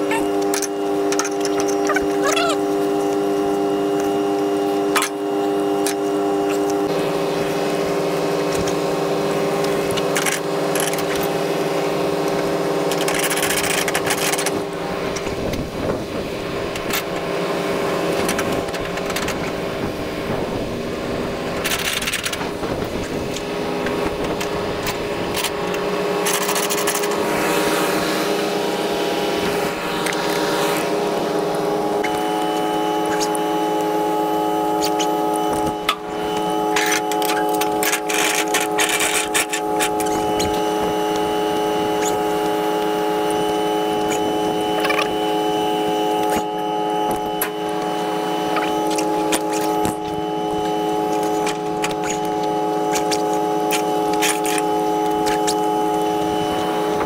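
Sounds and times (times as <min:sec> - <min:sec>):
heavy truck engine running: 0:00.0 - 0:57.0.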